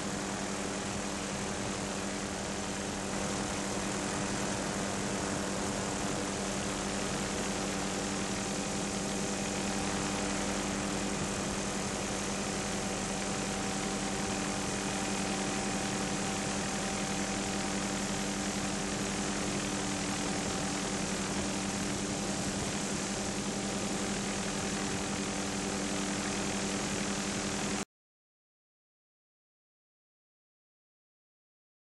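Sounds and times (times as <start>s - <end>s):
aircraft engine drone: 0.0s - 27.8s.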